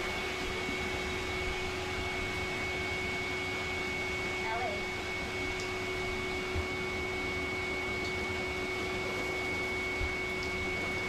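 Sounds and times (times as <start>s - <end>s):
blower dryer running: 0.0s - 11.0s.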